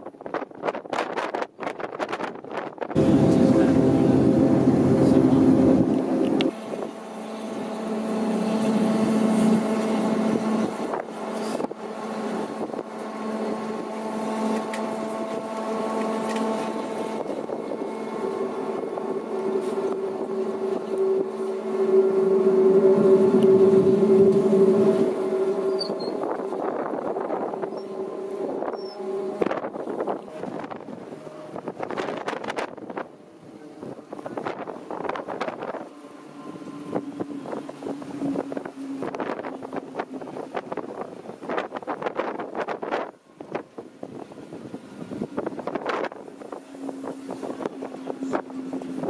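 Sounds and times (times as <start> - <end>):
heavy rumble: 0.0 - 49.0
noisy rush: 0.0 - 49.0
train hum and whine: 0.0 - 49.0.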